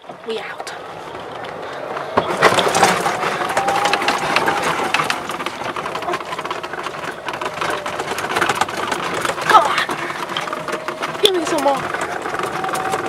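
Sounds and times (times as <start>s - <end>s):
crackling and crunching: 0.0s - 13.0s
golf cart motor whine: 0.0s - 13.0s.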